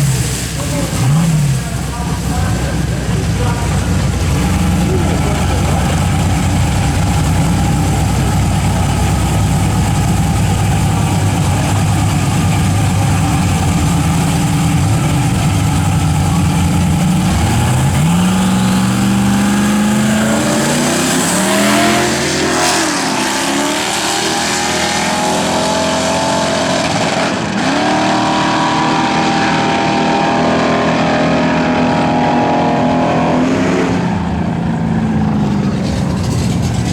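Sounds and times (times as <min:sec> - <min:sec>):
pickup engine revving: 0:00.0 - 0:36.9.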